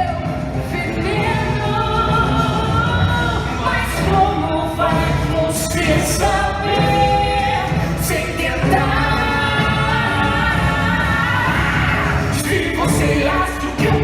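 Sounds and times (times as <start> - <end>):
song with singing voices: 0.0 - 14.0.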